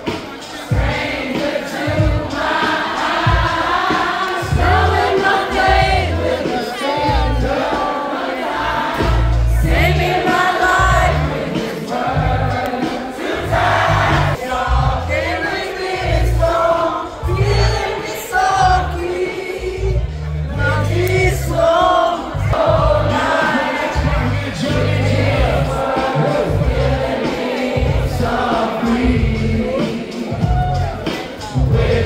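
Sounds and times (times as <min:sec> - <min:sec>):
crowd noise: 0:00.0 - 0:32.0
party music with heavy bass: 0:00.0 - 0:32.0
singing voices: 0:00.0 - 0:32.0.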